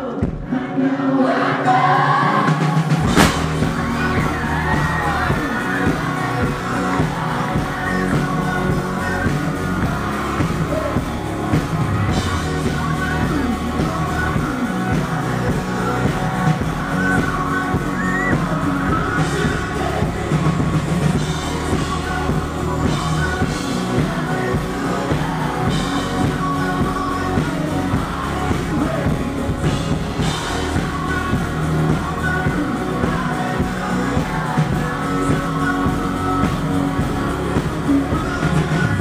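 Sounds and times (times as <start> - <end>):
person singing: 0.0 - 39.0
electric guitar: 2.0 - 39.0
drum kit: 2.3 - 39.0.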